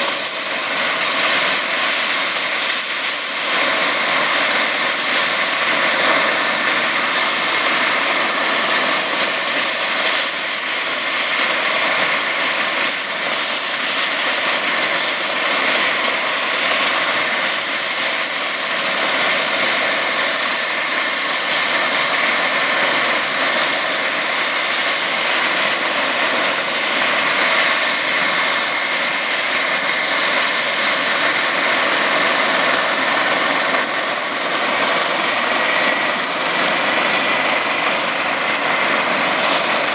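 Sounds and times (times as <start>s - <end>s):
helicopter turbine and rotor running: 0.0s - 39.9s.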